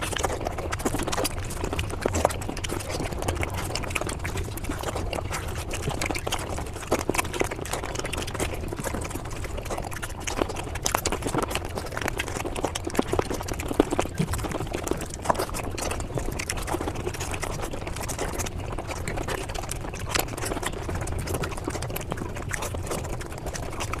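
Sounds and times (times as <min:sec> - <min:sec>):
sped-up chewing and mouth noises: 0:00.0 - 0:24.0.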